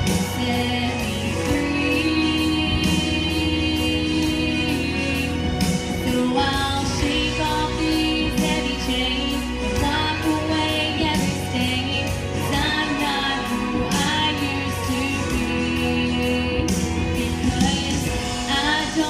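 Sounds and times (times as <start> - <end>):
instrumental accompaniment: 0.0 - 19.0
woman singing pop song: 0.0 - 19.0.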